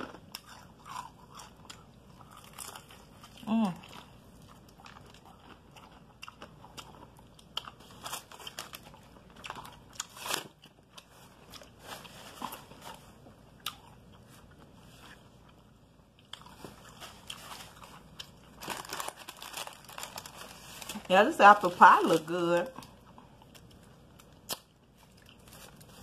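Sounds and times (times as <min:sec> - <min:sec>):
chewing crispy fried chicken: 0:00.0 - 0:21.0, 0:22.2 - 0:26.0.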